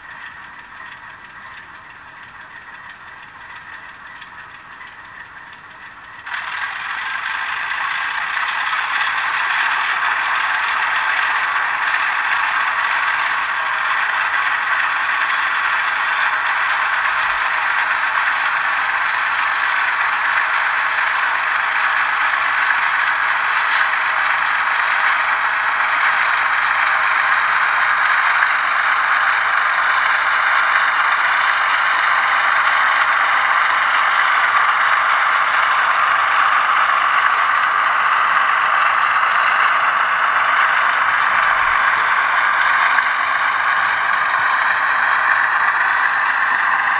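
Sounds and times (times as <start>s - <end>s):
thin diesel engine sound from speaker: 0.0s - 46.9s.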